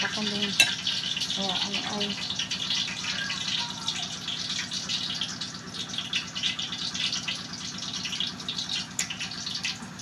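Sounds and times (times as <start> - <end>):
food frying in oil: 0.0 - 10.0.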